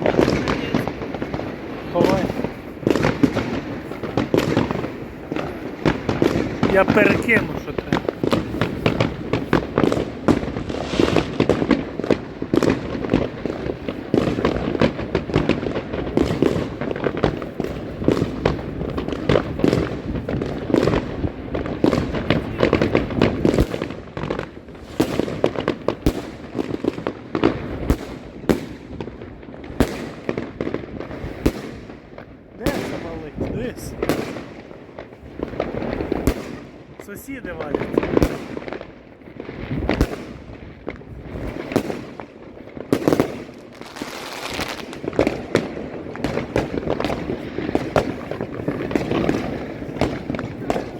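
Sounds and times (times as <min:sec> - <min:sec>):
fireworks cracks and bangs: 0:00.0 - 0:50.9.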